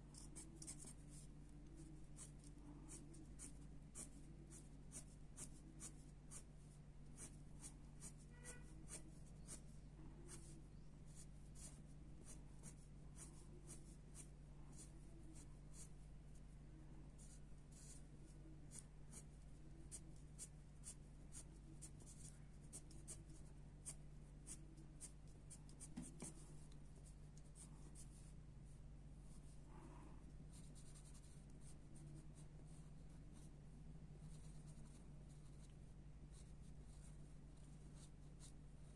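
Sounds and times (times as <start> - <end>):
steady low hum: 0.0 - 38.9
pencil scratching on paper: 0.1 - 16.0, 17.1 - 29.6, 30.2 - 33.6, 34.2 - 38.9.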